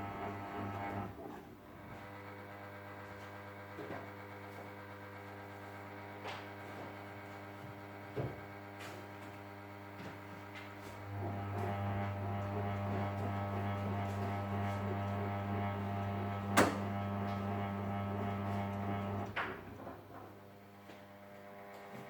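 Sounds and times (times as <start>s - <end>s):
steady electrical hum: 0.0s - 22.0s
washing machine motor drone: 0.0s - 22.0s.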